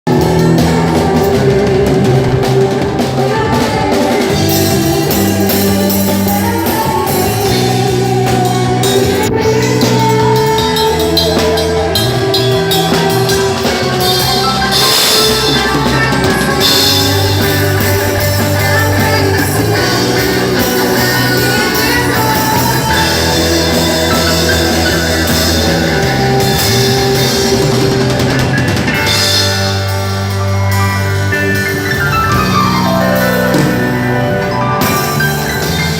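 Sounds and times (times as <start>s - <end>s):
worship band playing rock song: 0.0s - 35.9s.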